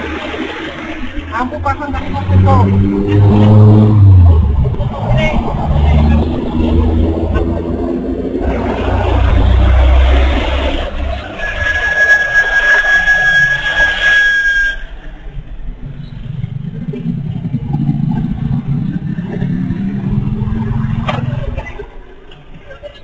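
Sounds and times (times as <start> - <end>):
large engine rumbling: 0.0 - 23.0
traffic noise: 0.0 - 23.0.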